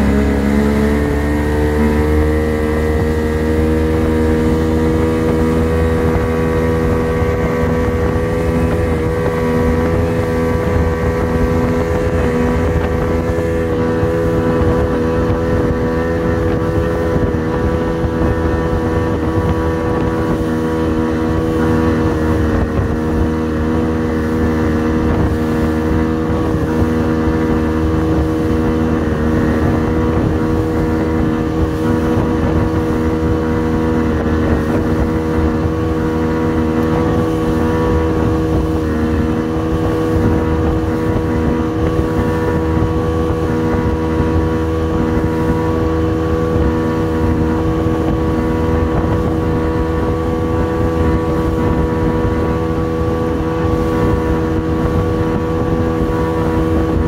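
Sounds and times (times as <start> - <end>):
outboard motor drone: 0.0 - 57.0
rush of boat wake: 0.0 - 57.0.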